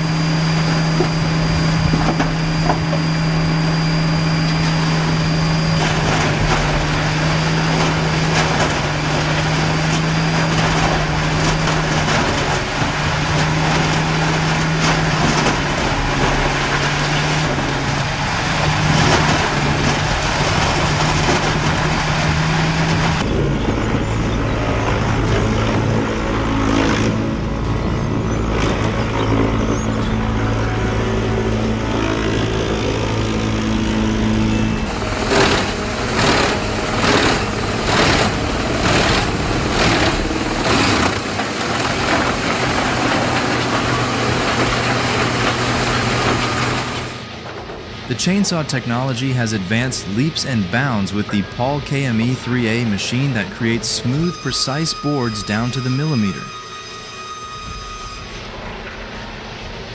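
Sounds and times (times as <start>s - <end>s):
wood being ground: 0.0s - 47.4s, 48.1s - 58.4s
low machine engine hum: 0.0s - 56.8s
grinder engine drone: 0.0s - 59.9s.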